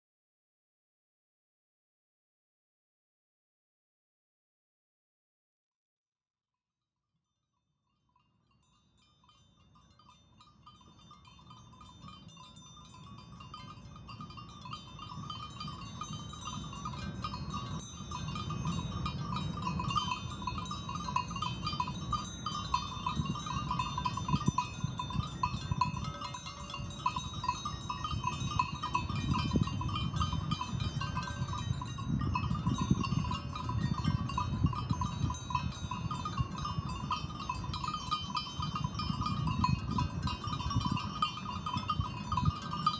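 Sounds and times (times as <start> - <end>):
sheep bells tinkling: 8.1 - 42.9.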